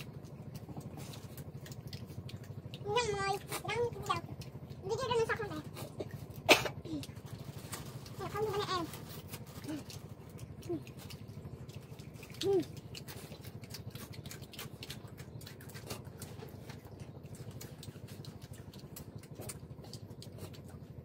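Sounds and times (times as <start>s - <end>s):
lip-smacking: 0.0s - 21.0s.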